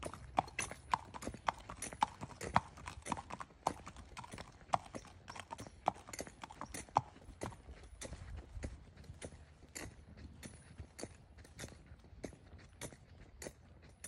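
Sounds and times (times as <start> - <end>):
hooves clip-clopping on concrete: 0.0 - 14.0.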